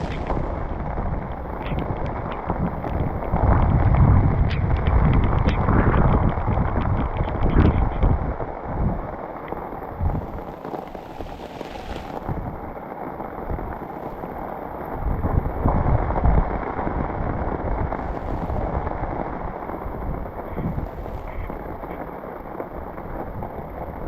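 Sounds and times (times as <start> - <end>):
heavy rain: 0.0 - 24.0
low rumbling surges: 0.0 - 24.0
wind: 0.0 - 24.0.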